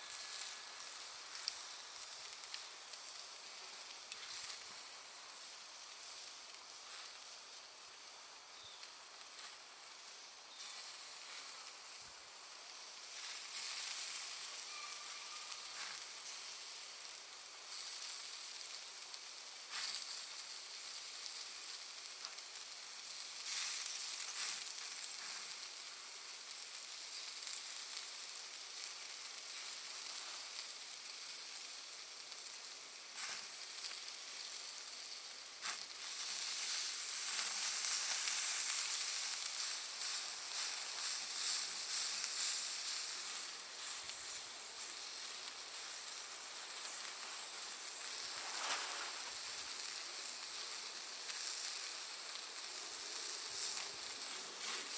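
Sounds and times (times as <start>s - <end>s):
bonfire hissing: 0.0s - 54.9s
charcoal popping: 0.1s - 7.5s, 8.5s - 54.9s.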